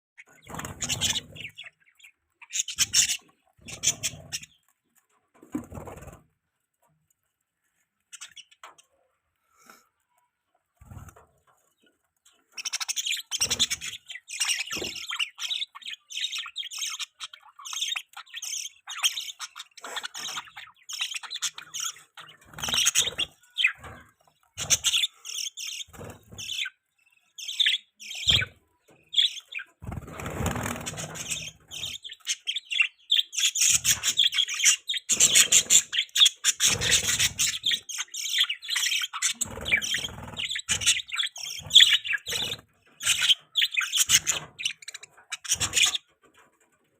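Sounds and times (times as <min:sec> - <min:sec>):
budgerigars chirping: 0:00.2 - 0:04.7, 0:08.1 - 0:08.8, 0:11.8 - 0:46.4.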